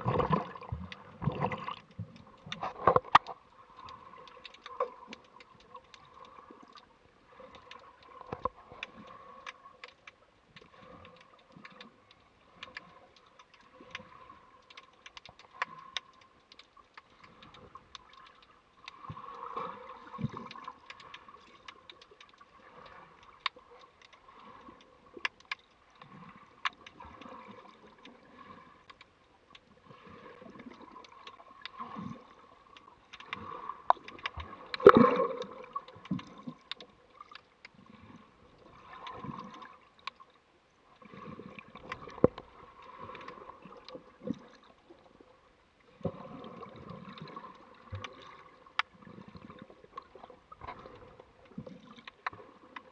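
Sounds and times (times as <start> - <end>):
sharp underwater clicks: 0.0 - 40.4, 41.3 - 45.0, 46.0 - 52.9
muffled underwater water murmur: 0.0 - 52.9.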